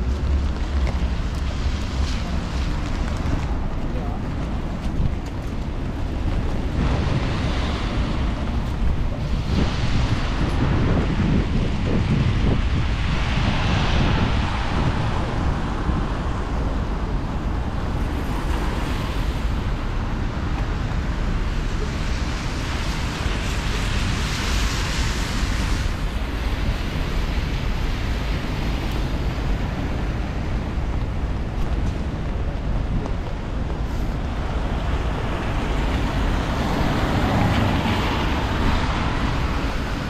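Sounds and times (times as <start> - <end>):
rainy street ambience: 0.0 - 40.0
vehicles passing on wet pavement: 0.0 - 40.0
wind rumbling on microphone: 0.0 - 40.0.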